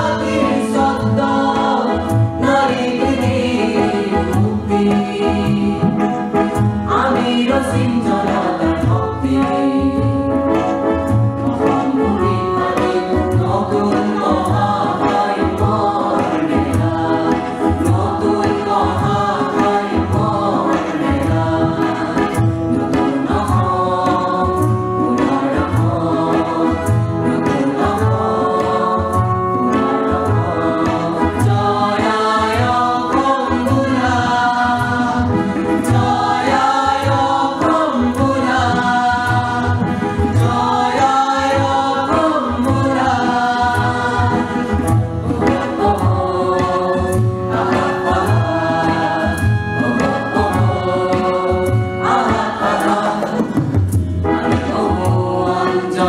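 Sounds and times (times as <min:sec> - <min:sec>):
group singing in chorus: 0:00.0 - 0:56.0
steady low drum beat: 0:11.1 - 0:56.0.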